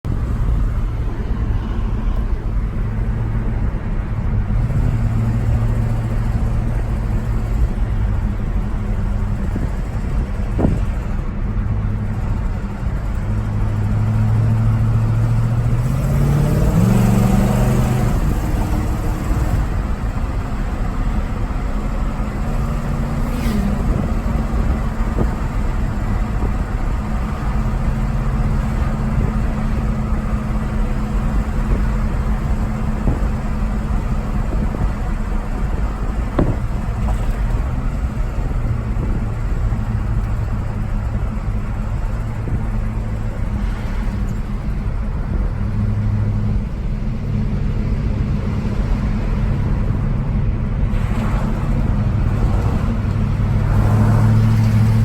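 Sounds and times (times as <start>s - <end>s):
car engine humming: 0.0s - 55.0s.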